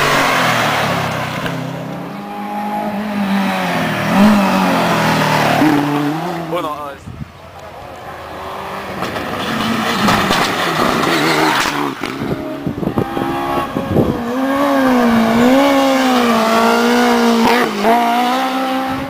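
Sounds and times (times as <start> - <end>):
rally car engine passing by: 0.0 - 6.8, 7.7 - 19.0.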